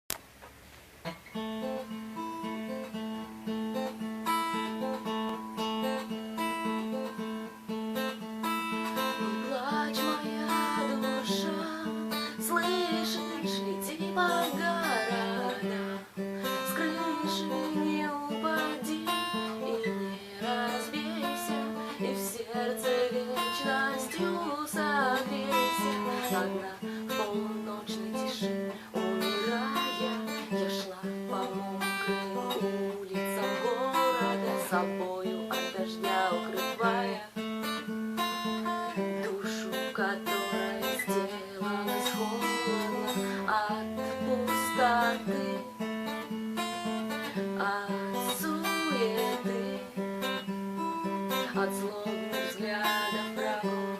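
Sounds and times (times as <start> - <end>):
strummed acoustic guitar: 1.0 - 53.9.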